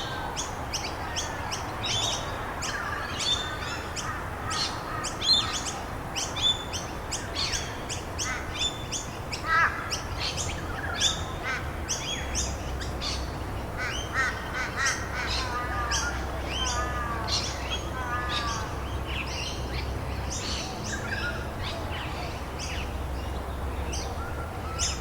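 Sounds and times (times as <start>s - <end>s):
wild birds chirping: 0.0s - 25.0s.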